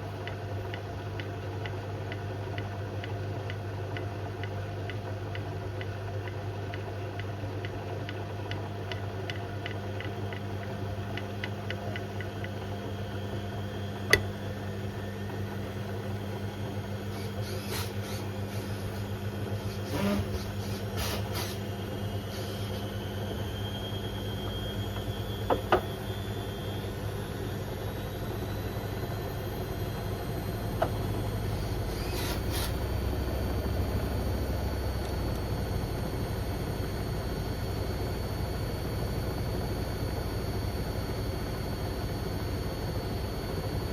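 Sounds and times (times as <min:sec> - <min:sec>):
washing machine motor humming: 0:00.0 - 0:43.9.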